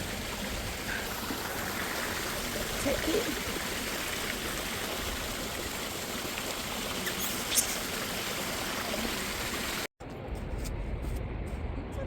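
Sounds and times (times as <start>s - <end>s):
running water rushing: 0.0s - 9.9s.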